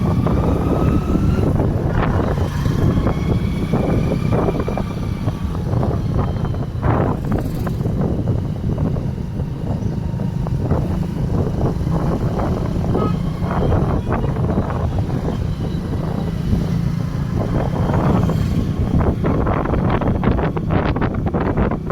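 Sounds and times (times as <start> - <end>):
motorcycle engine rumbling: 0.0 - 21.9
wind buffeting microphone: 0.0 - 21.9.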